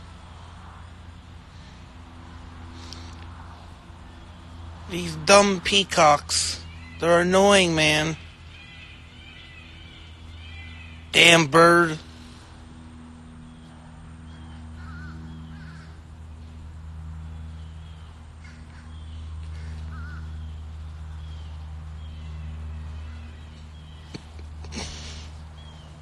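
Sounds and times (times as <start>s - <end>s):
peacocks calling: 0.0s - 26.0s
steady low hum: 0.0s - 26.0s.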